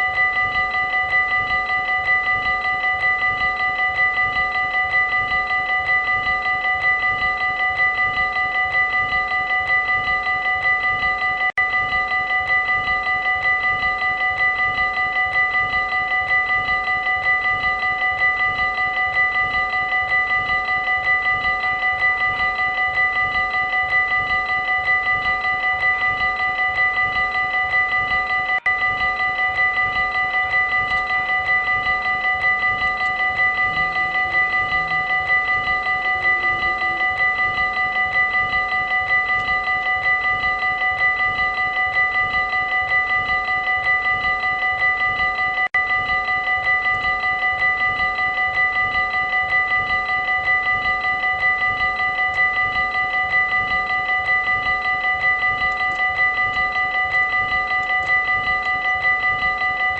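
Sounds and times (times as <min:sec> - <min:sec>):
level crossing warning bell: 0:00.0 - 0:59.9.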